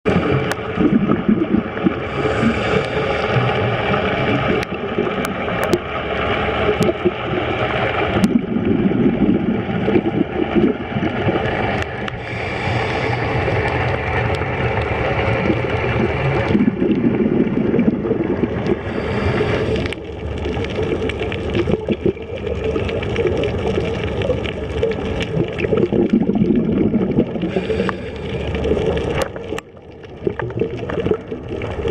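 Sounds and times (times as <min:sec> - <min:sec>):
sea water sloshing and splashing: 0:00.1 - 0:31.9.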